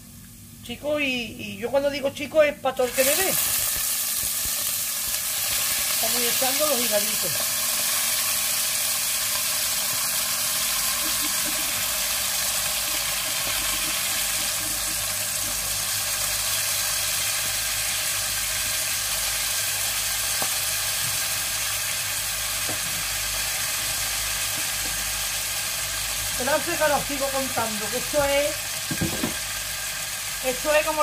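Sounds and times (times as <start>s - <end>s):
livers sizzling in hot oil: 2.8s - 31.0s.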